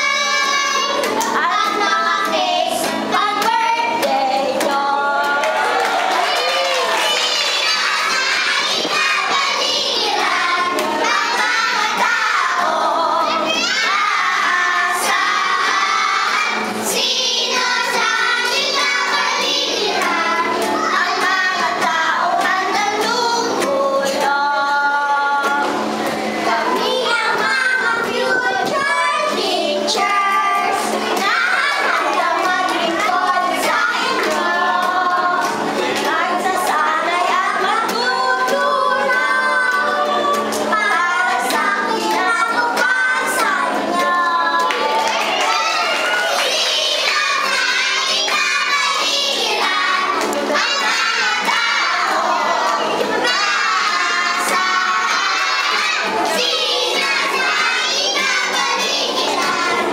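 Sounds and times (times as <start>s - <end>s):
children singing into microphone: 0.0s - 59.9s.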